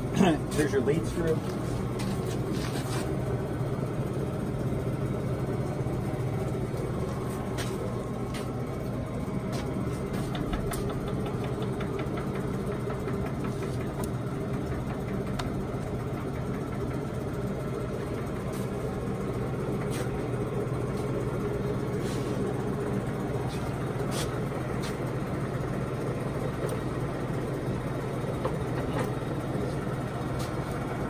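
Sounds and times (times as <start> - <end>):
lathe motor humming: 0.0 - 31.0.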